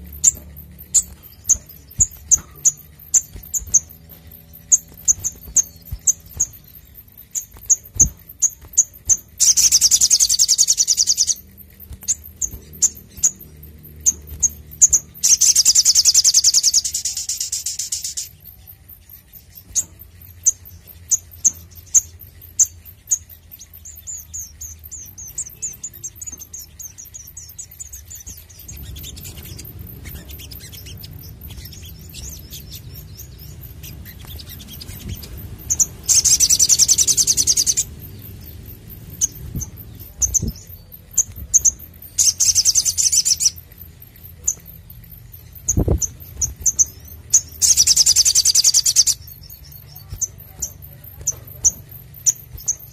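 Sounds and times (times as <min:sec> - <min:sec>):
bird rapid trilling: 0:00.0 - 0:18.3, 0:19.2 - 0:52.9
bird chirping: 0:00.0 - 0:52.9.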